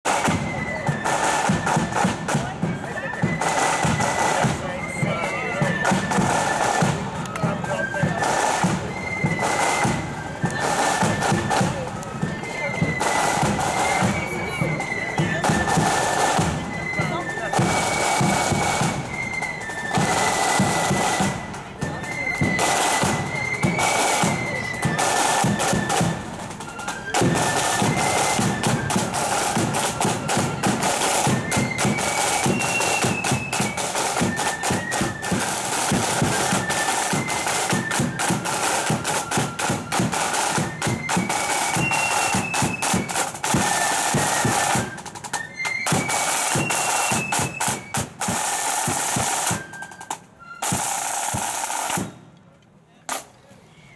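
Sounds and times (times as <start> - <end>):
flute melody: 0.1 - 52.5.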